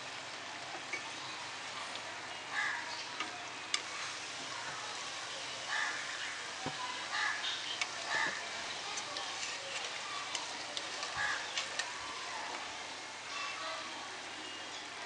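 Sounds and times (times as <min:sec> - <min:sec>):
deep-frying sizzle: 0:00.0 - 0:15.0.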